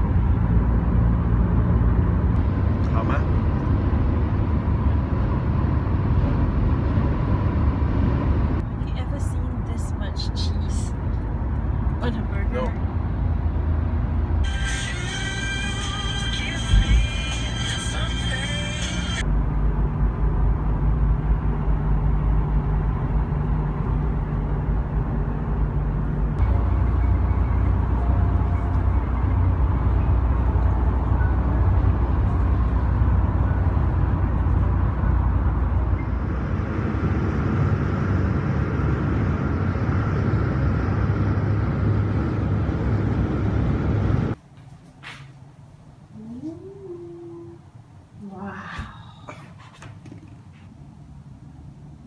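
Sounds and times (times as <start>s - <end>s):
car cabin road and engine rumble: 0.0s - 44.4s.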